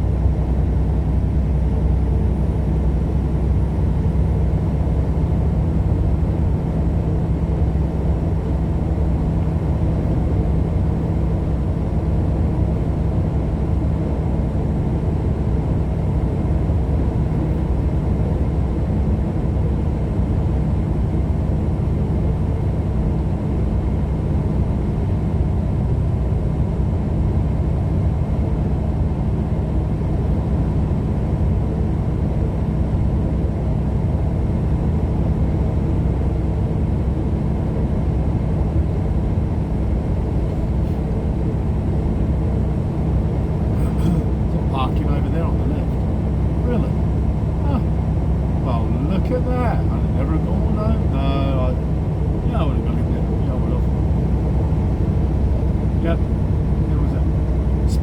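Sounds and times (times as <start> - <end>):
engine drone: 0.0 - 58.0
road noise inside vehicle: 0.0 - 58.0.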